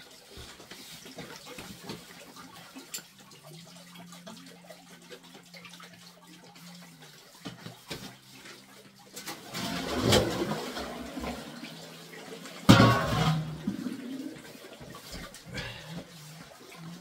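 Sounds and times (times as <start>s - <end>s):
water running from a hose: 0.0s - 17.0s.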